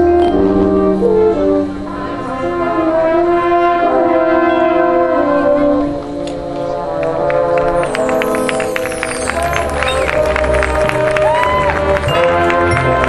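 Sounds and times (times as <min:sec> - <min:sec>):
brass section playing chords: 0:00.0 - 0:13.0.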